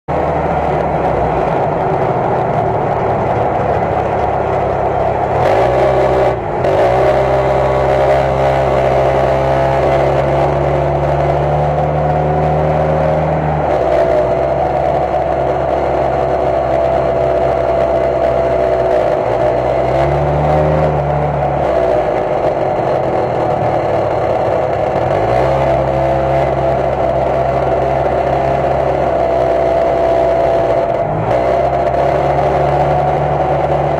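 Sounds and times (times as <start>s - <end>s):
car engine revving: 0.1s - 33.9s
rattle inside muffler: 0.1s - 33.9s.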